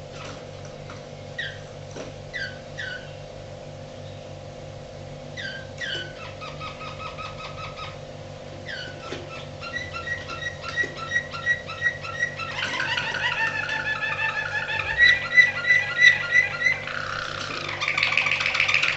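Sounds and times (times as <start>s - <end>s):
canary singing: 1.2s - 4.4s, 5.3s - 18.9s.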